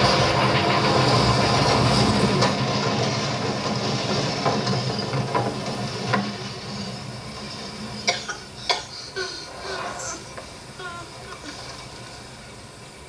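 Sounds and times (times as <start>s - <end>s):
train rumbling over steel bridge: 0.0s - 13.0s.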